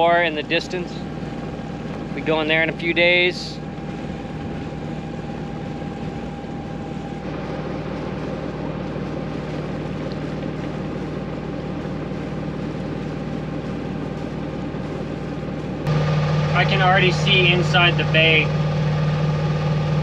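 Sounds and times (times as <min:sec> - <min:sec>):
boat engine drone: 0:00.0 - 0:20.0
wind and water hiss: 0:00.0 - 0:20.0.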